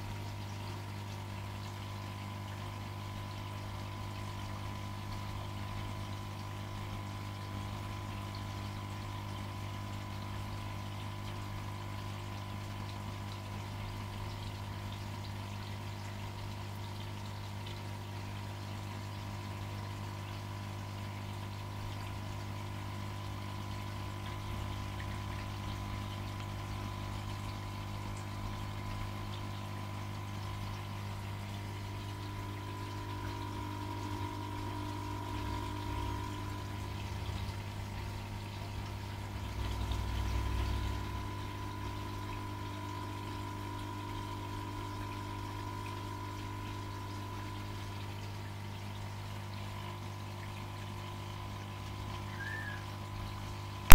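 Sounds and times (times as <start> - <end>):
aquarium pump humming: 0.0 - 53.9
water flowing: 0.0 - 53.9.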